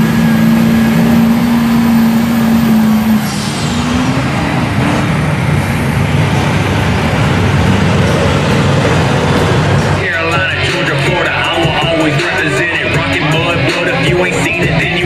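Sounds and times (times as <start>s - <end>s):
pickup truck engine droning: 0.0s - 15.0s.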